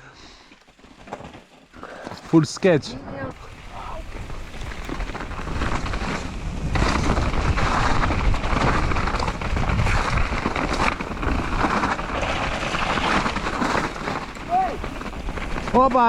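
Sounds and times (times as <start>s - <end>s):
bike rushing on trail: 0.0s - 16.0s
wind buffeting microphone: 3.1s - 16.0s.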